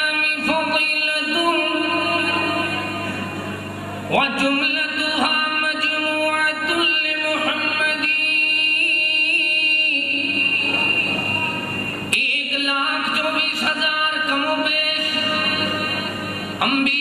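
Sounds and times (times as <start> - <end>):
man chanting melodically: 0.0 - 3.3, 3.9 - 17.0.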